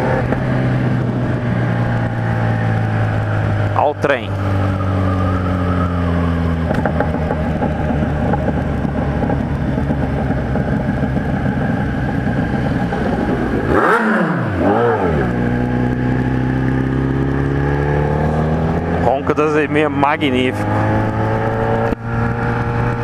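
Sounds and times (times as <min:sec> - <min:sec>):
motorcycle engine riding: 0:00.0 - 0:23.0.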